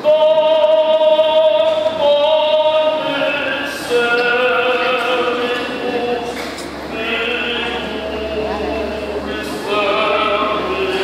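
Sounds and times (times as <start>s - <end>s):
mixed choir singing held chords: 0.0s - 11.0s.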